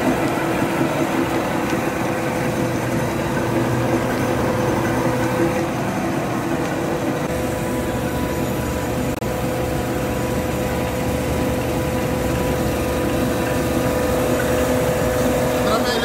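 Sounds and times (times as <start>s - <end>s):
machine whine: 0.0s - 16.0s
rice mill machine humming: 0.0s - 16.0s.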